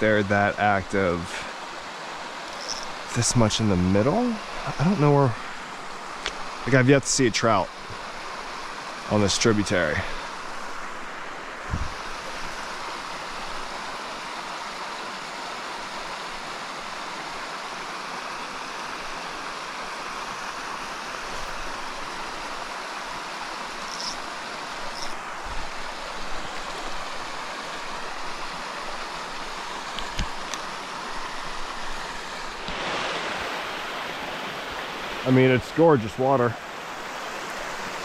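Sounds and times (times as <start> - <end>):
stream running over rocks: 0.0 - 38.0.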